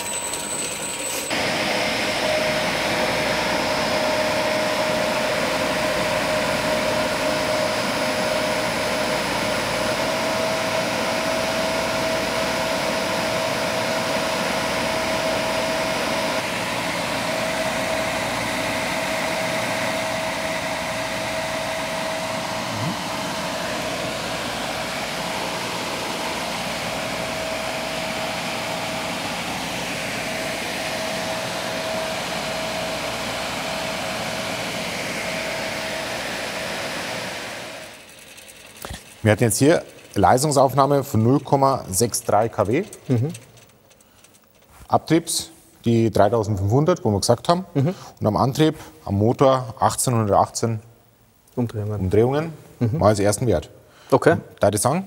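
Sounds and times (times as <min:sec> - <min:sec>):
fan rushing air with whine: 0:00.0 - 0:55.0.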